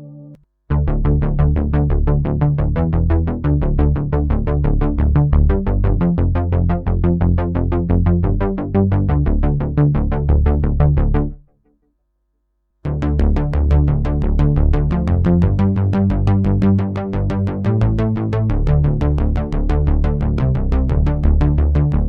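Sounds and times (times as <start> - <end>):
synthesizer bass line: 0.0 - 11.4, 12.9 - 22.0.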